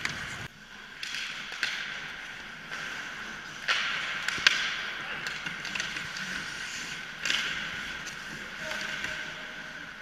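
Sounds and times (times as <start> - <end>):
hockey sticks and puck clacking: 0.0 - 10.0.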